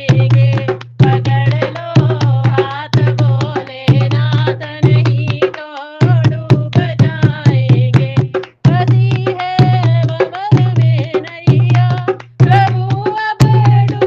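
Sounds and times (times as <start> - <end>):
percussion beat: 0.0 - 14.0.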